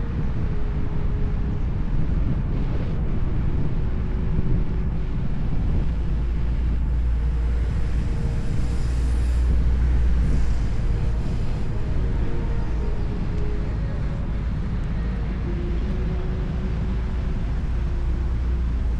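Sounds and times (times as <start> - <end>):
faint thin whine: 0.0 - 18.9
wind rumbling on microphone: 0.0 - 18.9.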